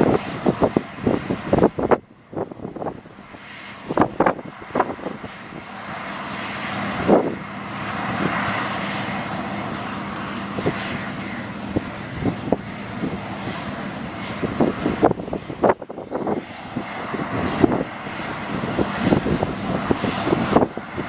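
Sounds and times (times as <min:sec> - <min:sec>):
farm machinery drone: 0:00.0 - 0:21.0
wind buffeting microphone: 0:00.0 - 0:21.0.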